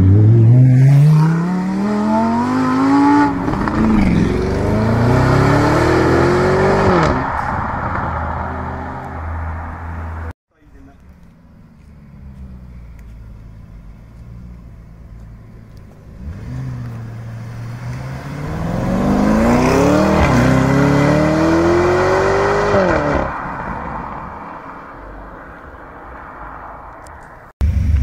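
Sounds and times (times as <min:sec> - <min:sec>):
car engine accelerating hard: 0:00.0 - 0:10.3, 0:11.2 - 0:23.4.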